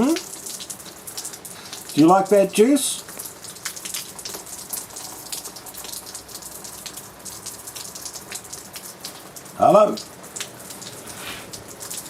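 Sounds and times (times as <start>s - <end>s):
rain falling: 0.0s - 12.0s
raindrops ticking: 0.0s - 12.0s.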